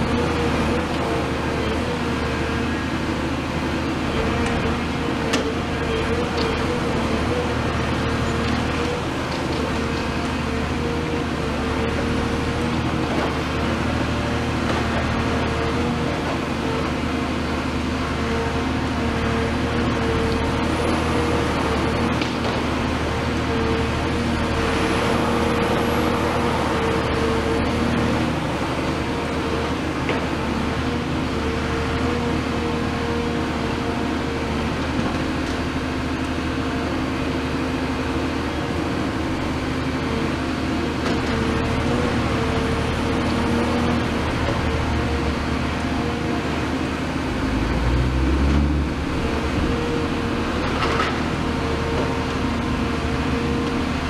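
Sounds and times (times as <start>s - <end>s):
diesel excavator engine running: 0.0s - 54.0s.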